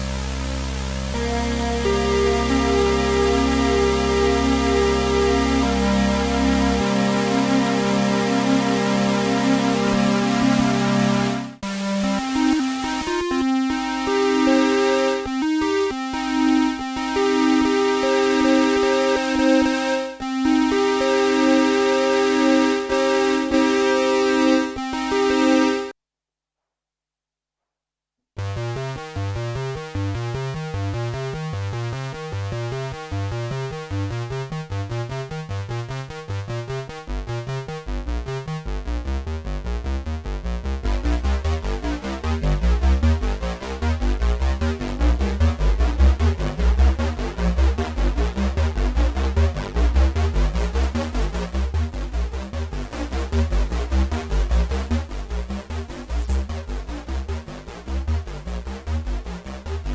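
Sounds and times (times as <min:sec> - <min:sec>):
synthesizer bass line: 0:00.0 - 0:25.9, 0:32.6 - 0:59.9
synthesizer pulsing pattern: 0:00.0 - 0:25.9, 0:37.2 - 0:59.9.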